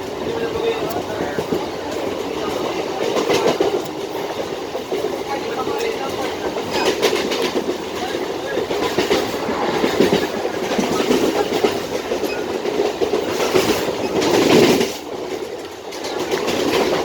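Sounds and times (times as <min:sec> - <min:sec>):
train rumble and rattle: 0:00.0 - 0:17.0
wheels clacking over rail joints: 0:00.0 - 0:17.0.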